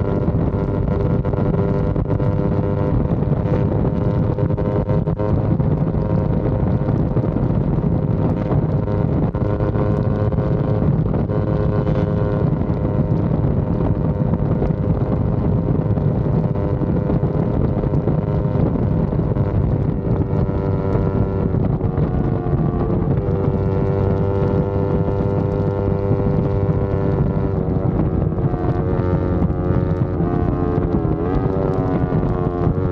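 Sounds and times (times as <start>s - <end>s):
motorcycle engine running: 0.0s - 32.9s
wind buffeting microphone: 0.0s - 32.9s.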